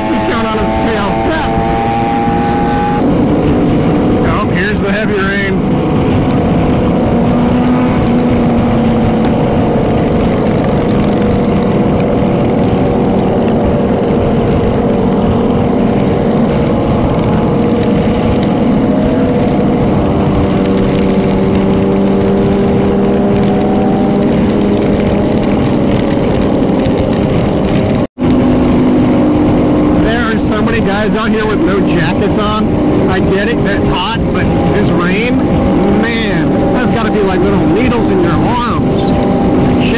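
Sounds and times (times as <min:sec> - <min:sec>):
motorcycle engines cruising: 0:00.0 - 0:39.9.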